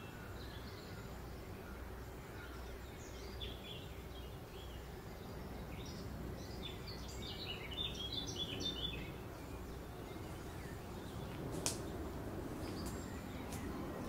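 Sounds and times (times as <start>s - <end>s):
low outdoor rumble: 0.0s - 14.0s
small birds singing: 0.0s - 14.0s.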